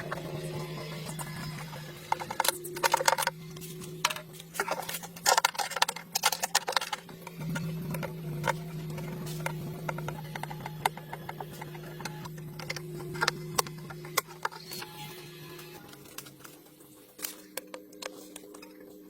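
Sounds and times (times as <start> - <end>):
rapid clicking and rattling: 0.0 - 18.8
low mechanical hum: 0.0 - 19.0.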